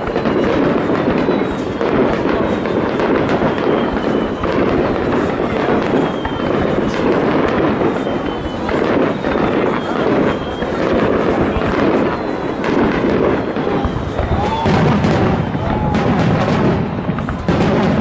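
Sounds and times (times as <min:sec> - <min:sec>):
firework whistling: 0:00.0 - 0:18.0
fireworks bangs and crackling: 0:00.0 - 0:18.0.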